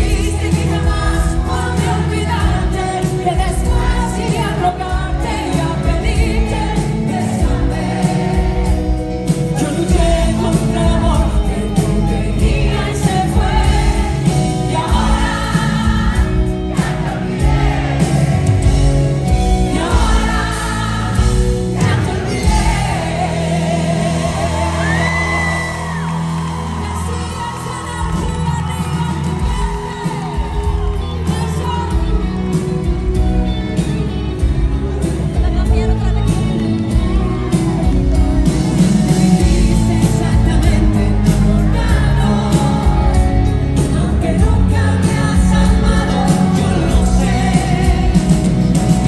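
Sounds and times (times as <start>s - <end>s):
woman singing pop song: 0.0s - 33.3s, 35.3s - 49.0s
live band playing: 0.0s - 49.0s.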